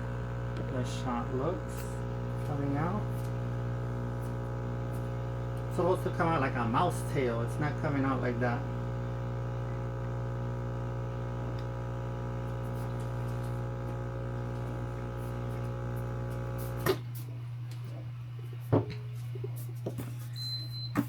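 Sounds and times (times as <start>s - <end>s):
espresso machine pump humming: 0.0s - 17.4s.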